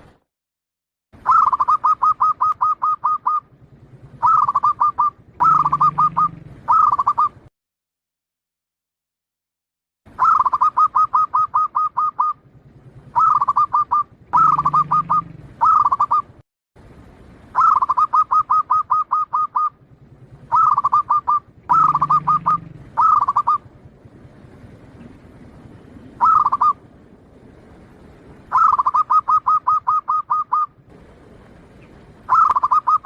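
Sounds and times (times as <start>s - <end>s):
dove cooing: 1.2s - 7.5s, 10.2s - 16.4s, 17.5s - 26.9s, 28.4s - 33.0s.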